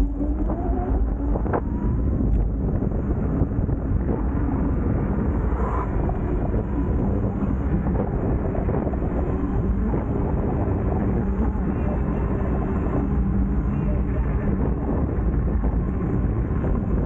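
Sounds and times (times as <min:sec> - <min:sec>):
wind over microphone: 0:00.0 - 0:17.0.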